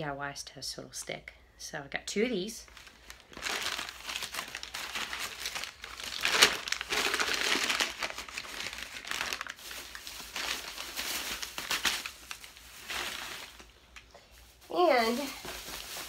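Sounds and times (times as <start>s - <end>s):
plastic bag crinkling: 2.6s - 16.0s.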